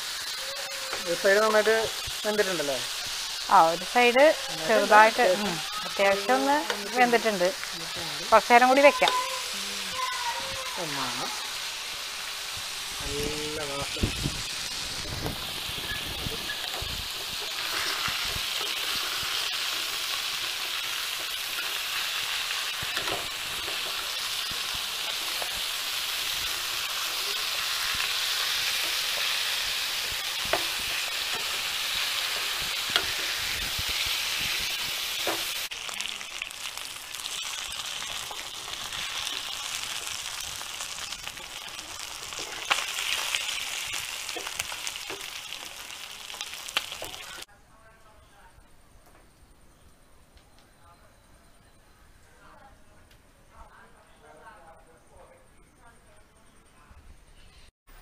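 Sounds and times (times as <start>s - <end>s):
chicken sizzling in hot oil: 0.0s - 47.5s.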